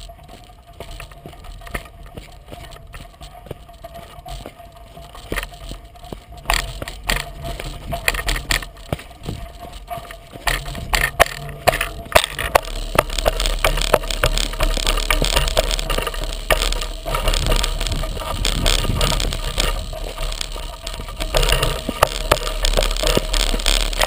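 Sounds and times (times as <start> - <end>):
gravel crunching: 0.0 - 24.0
low wind rumble: 0.0 - 24.0
unicycle tire rolling on dirt trail: 0.0 - 24.0.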